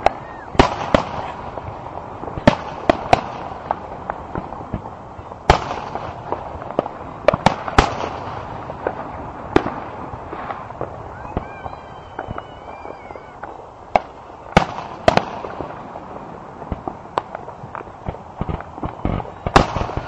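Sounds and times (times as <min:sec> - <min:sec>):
firework shells booming: 0:00.0 - 0:20.0.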